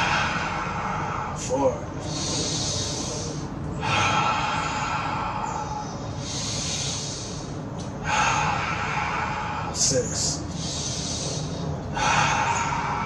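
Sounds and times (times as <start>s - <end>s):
man breathing deeply: 0.0s - 13.0s.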